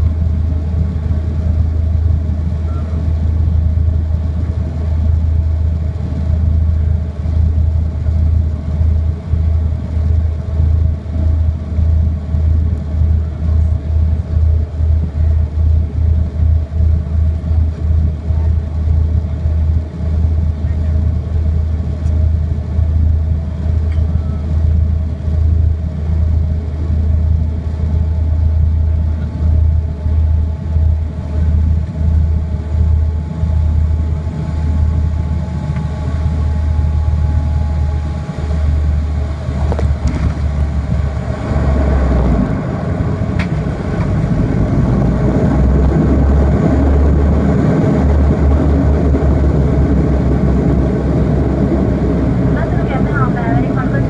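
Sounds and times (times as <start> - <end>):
pulsing propeller drone: 0.0 - 54.0
reverse thrust propeller roar: 0.0 - 54.0.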